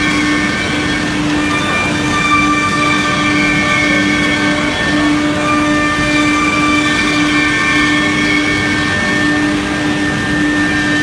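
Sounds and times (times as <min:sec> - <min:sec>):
cnc router machinery hum: 0:00.0 - 0:11.0.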